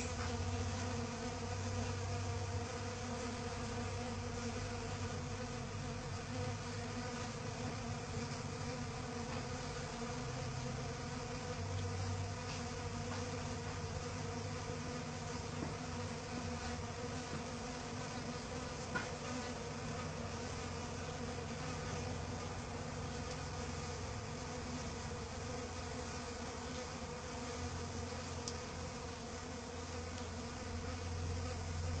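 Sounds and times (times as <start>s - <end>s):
bee buzzing in flight: 0.0s - 32.0s.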